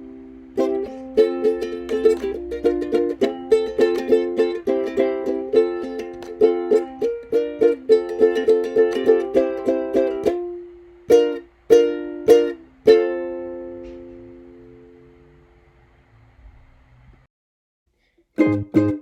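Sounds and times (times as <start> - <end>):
strummed ukulele chords: 0.0 - 15.0, 18.4 - 19.0.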